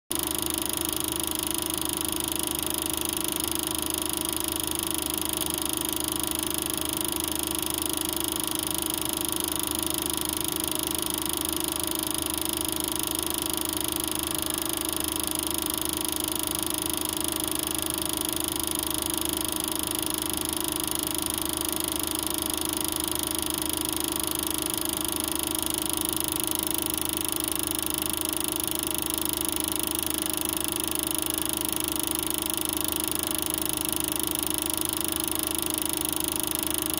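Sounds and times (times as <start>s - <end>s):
film projector whirring: 0.1s - 36.9s.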